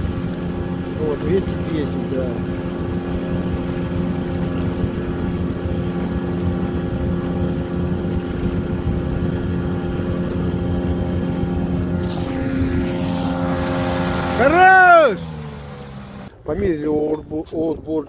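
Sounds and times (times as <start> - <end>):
outboard motor running: 0.0 - 16.4.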